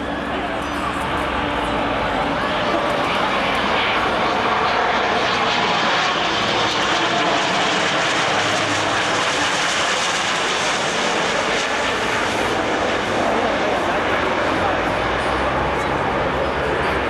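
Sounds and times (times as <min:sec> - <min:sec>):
propeller airliner droning overhead: 0:00.0 - 0:17.0.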